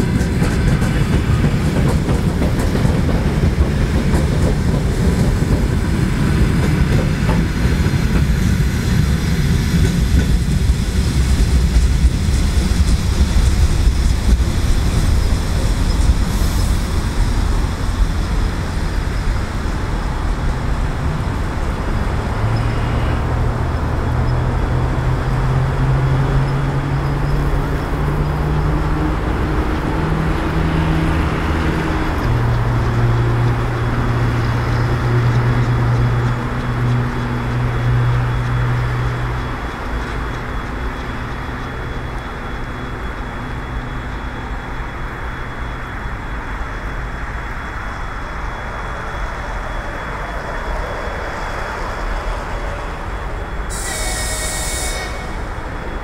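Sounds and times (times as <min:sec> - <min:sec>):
constant rushing noise: 0:00.0 - 0:56.0
electric train hum: 0:00.0 - 0:56.0.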